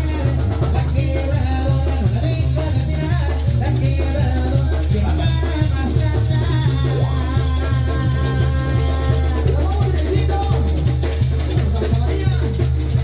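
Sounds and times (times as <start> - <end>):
banda music with horns and drums: 0.0 - 13.0.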